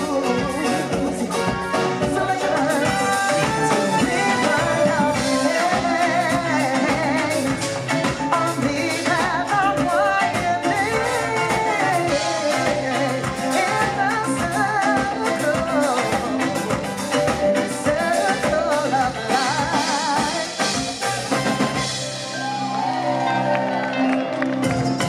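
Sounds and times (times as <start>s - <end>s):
person singing: 0.0s - 21.5s
drum kit beat: 0.0s - 23.3s, 24.4s - 25.0s
guitar: 0.0s - 25.0s.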